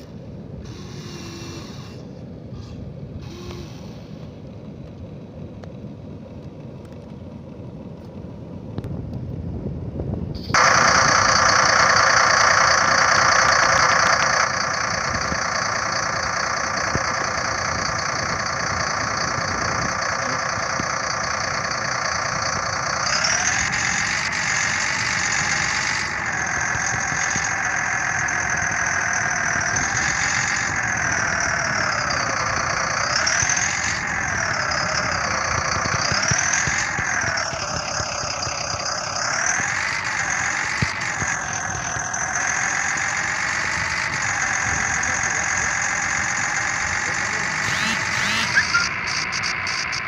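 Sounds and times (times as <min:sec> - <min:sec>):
model truck motor whine: 0:00.0 - 0:50.0.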